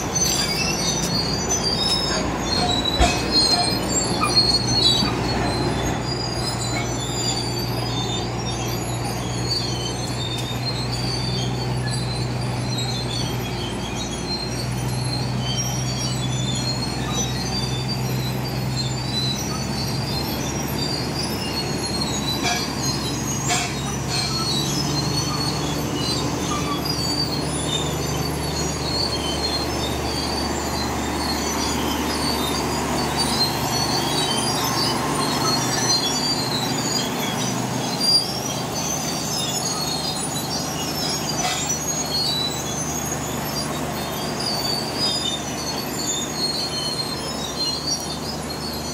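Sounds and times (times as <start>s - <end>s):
diesel engine under load: 0.0s - 48.9s
steel tracks squealing and clanking: 0.0s - 48.9s.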